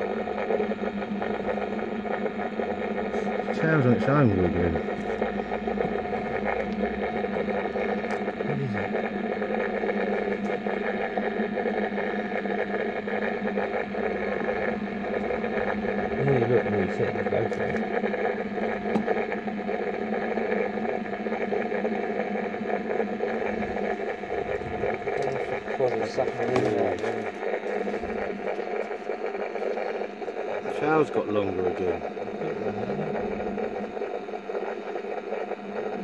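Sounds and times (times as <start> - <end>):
machine hum: 0.0 - 36.0.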